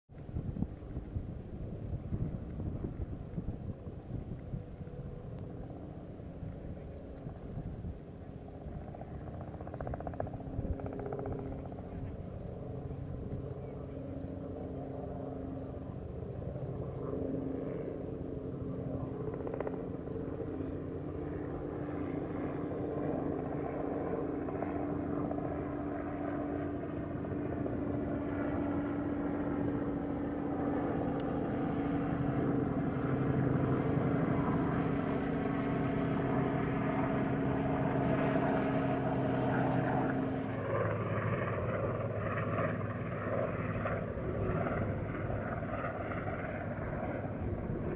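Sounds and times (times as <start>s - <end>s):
distant engine drone: 0.1s - 47.9s.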